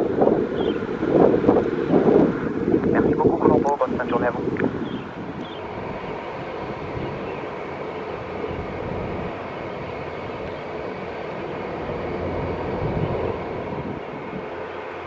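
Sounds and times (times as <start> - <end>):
turboprop aircraft engines rumbling: 0.0 - 15.0.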